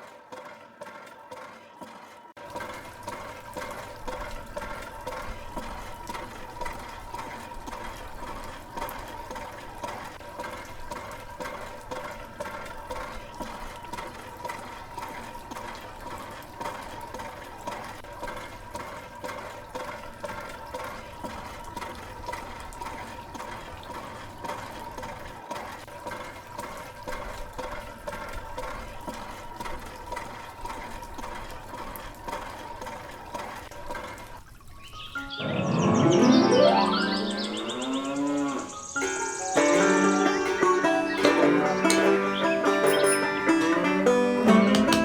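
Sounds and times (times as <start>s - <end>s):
water pouring and splashing: 0.0s - 35.4s, 36.1s - 45.0s
water pump whining: 0.0s - 35.4s, 37.0s - 45.0s.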